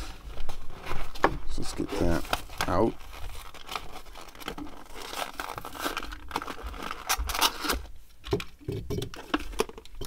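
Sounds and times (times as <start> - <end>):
plastic blister pack crinkling: 0.3 - 10.0.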